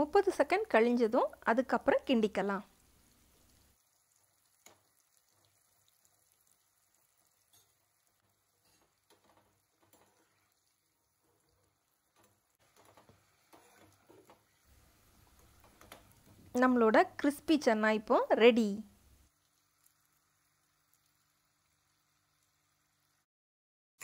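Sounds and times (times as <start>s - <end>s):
faint sizzling of deep-frying oil: 0.0s - 23.3s.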